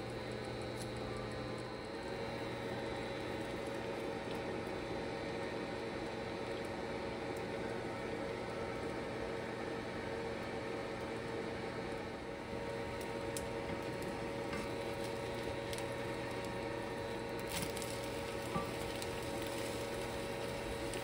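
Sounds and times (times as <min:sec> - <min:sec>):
egg sizzling in oil: 0:00.1 - 0:21.0.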